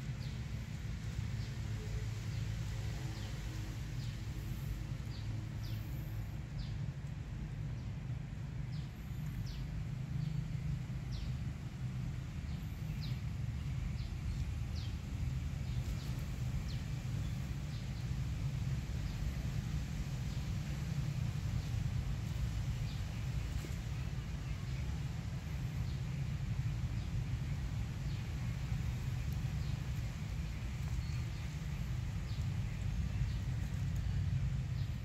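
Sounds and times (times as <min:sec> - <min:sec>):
low outdoor rumble: 0:00.0 - 0:35.0
small birds chirping: 0:04.0 - 0:06.9, 0:08.6 - 0:35.0.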